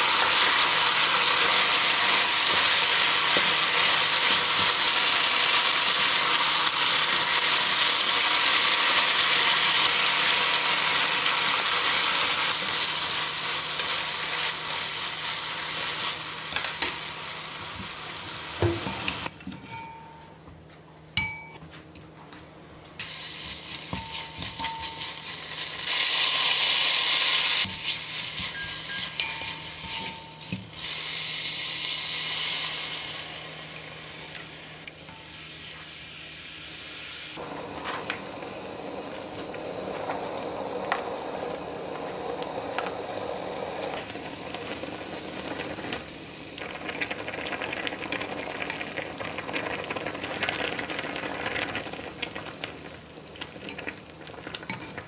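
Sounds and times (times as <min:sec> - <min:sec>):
meat sizzling in a pot: 0:00.0 - 0:19.3, 0:23.0 - 0:55.0.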